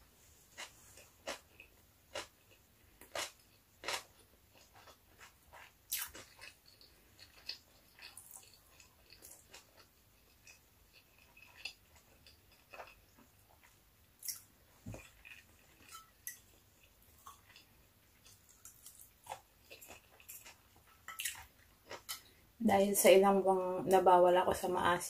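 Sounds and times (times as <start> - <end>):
person chewing: 0.5 - 22.4.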